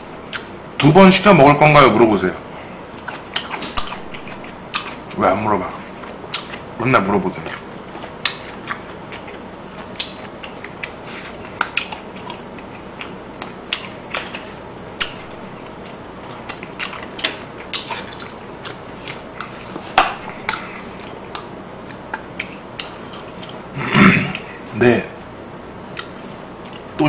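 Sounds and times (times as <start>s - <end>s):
wet chewing and mouth clicks: 0.0s - 1.0s, 2.9s - 6.7s, 7.3s - 23.7s, 25.9s - 27.0s.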